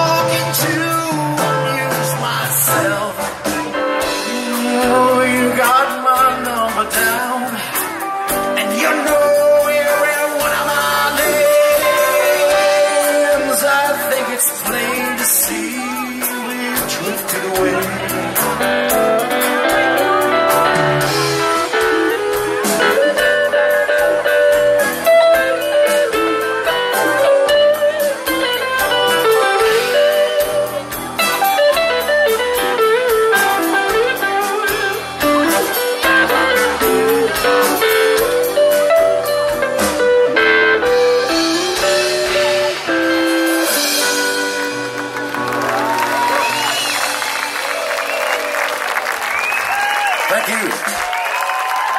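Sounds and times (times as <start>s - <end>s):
guitar lead melody: 0.0s - 46.5s.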